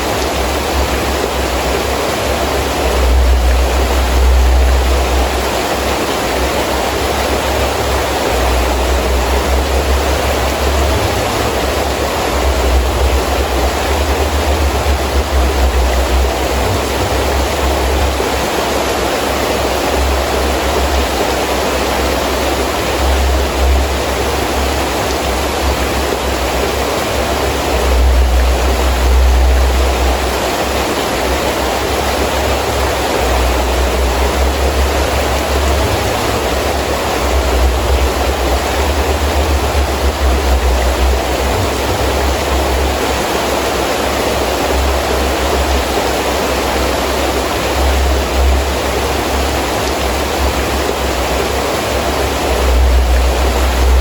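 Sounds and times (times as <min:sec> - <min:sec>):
heavy rain falling: 0:00.0 - 0:54.0
wind gusting with low rumble: 0:00.0 - 0:54.0.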